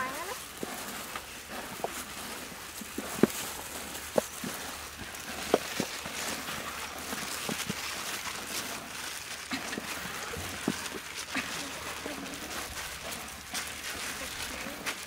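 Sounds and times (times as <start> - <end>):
gloved hands mixing batter: 0.0 - 15.0.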